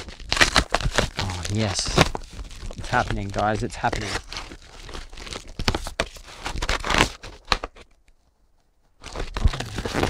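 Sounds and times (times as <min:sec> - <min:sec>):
paper and cardboard tearing: 0:00.0 - 0:07.8, 0:09.0 - 0:10.0.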